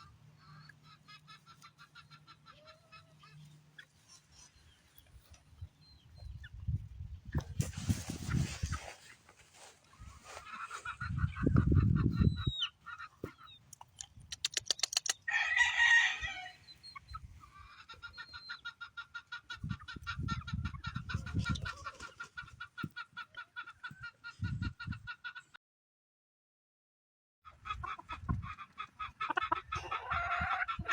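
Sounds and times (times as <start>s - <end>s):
chickens clucking: 0.0s - 15.4s, 16.2s - 25.5s, 27.5s - 30.9s.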